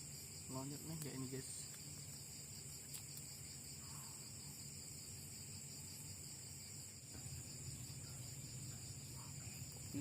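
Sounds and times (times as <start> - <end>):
crickets and insects chirping: 0.0 - 10.0.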